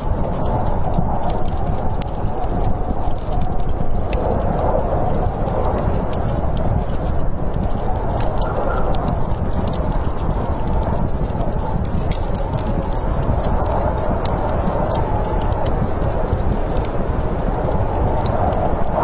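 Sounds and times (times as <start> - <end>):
fire crackling and popping: 0.0 - 19.0
storm wind rushing: 0.0 - 19.0.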